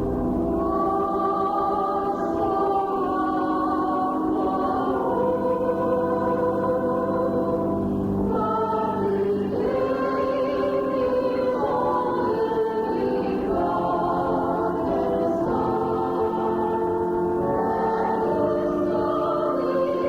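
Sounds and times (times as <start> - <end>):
congregation singing a hymn: 0.0 - 20.0.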